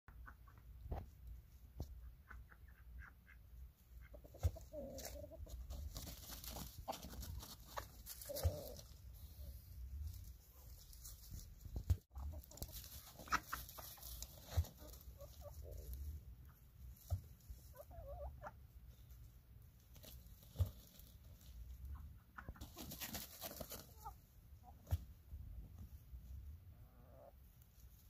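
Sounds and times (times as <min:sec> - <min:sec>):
chickens clucking: 0:00.1 - 0:10.9, 0:12.1 - 0:28.0.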